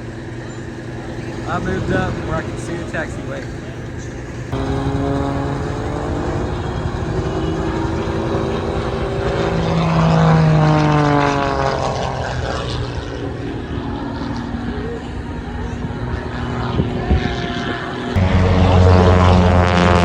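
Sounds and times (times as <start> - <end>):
propeller airplane passing by: 0.0 - 20.0.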